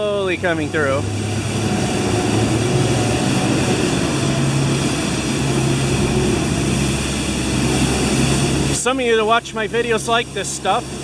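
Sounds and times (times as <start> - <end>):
street sweeper engine drone: 0.0 - 11.0.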